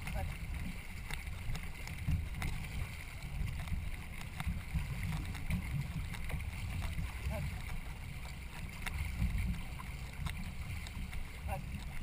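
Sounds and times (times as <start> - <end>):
canoe paddling in water: 0.0 - 12.0
faint clicks: 0.0 - 12.0
water splashes: 0.0 - 12.0
wind rumbling on microphone: 0.0 - 12.0.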